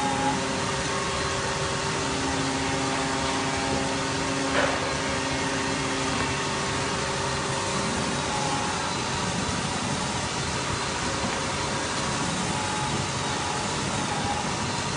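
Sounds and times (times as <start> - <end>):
belt sander running: 0.0 - 14.9.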